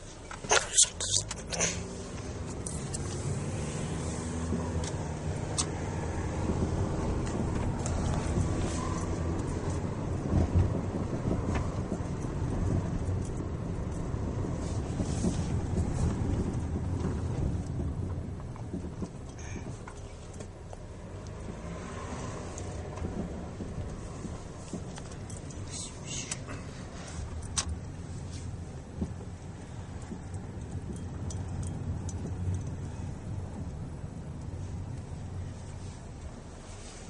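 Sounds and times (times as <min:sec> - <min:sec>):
vehicle rumble: 0:00.0 - 0:37.0.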